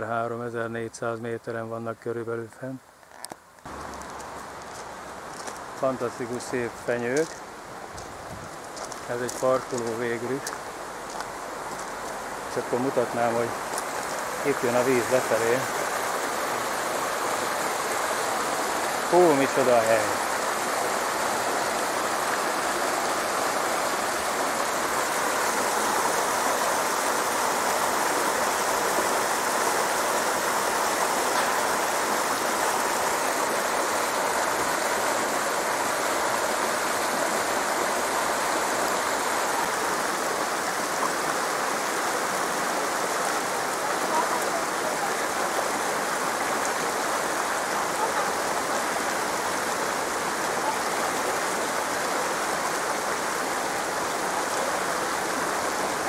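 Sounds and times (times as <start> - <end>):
mountain stream rushing: 2.9 - 56.0.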